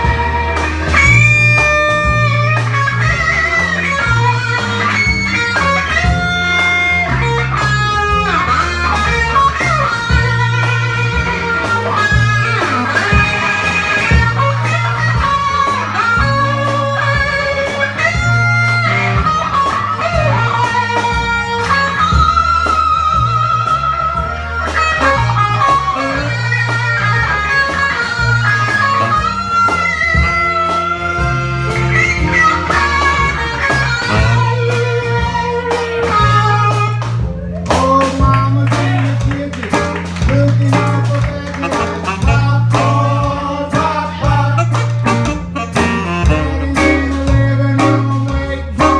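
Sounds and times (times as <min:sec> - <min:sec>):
electric guitar lead: 0:00.0 - 0:48.9
live band playing: 0:00.0 - 0:48.9.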